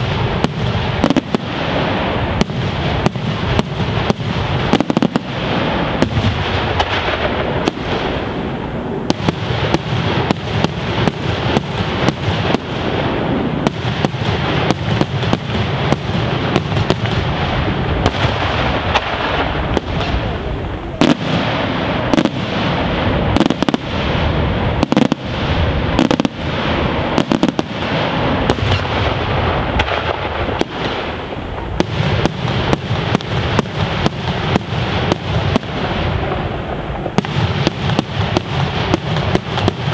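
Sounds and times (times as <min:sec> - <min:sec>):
fireworks bursts and crackling: 0:00.0 - 0:39.9
sharp firework bangs: 0:00.0 - 0:39.9.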